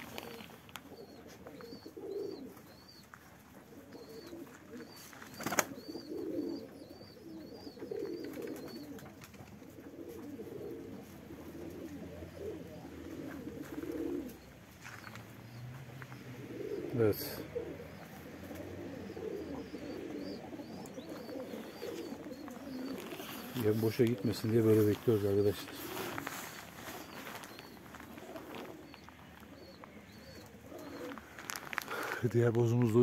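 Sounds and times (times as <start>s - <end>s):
pigeons cooing: 0.0s - 33.0s
pigeons pecking grain: 0.0s - 33.0s.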